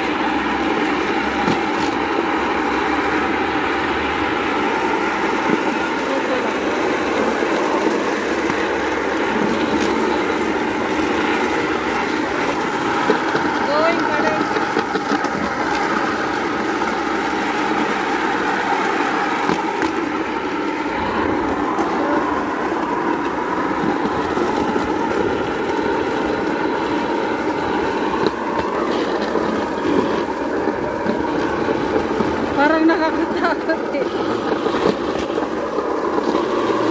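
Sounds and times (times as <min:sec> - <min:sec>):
rail trolley wheels rattling on track: 0:00.0 - 0:36.9.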